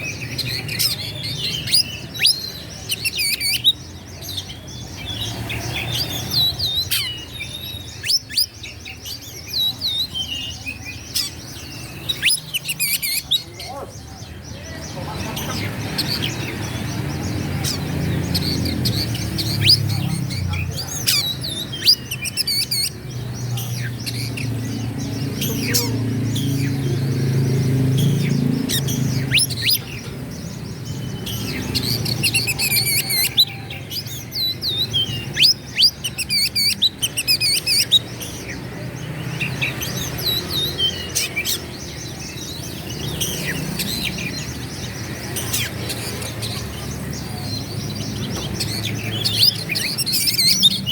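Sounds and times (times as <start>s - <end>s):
bird singing: 0.0s - 50.9s.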